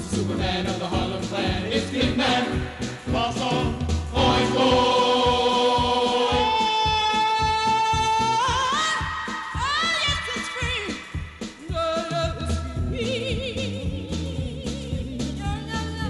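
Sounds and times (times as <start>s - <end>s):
steady drumbeat: 0.0s - 16.0s.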